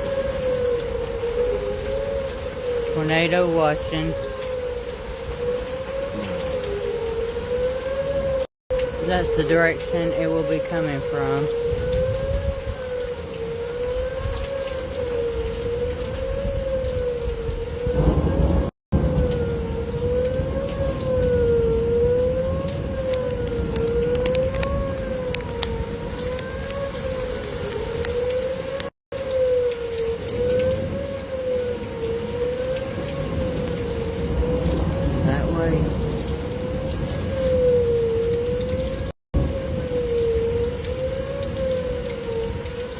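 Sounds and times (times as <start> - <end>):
rain falling: 0.0 - 42.9
wavering warning siren: 0.0 - 42.9.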